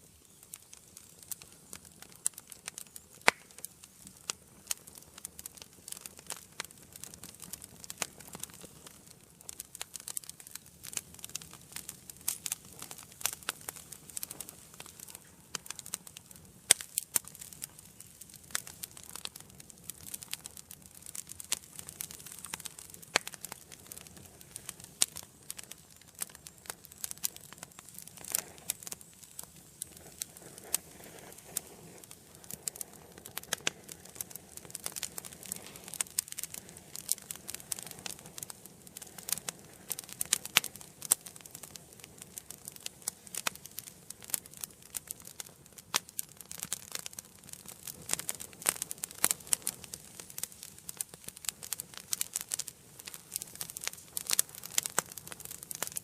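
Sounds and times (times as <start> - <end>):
fire crackling pops and snaps: 0.0 - 56.0
fire hissing: 0.0 - 56.0.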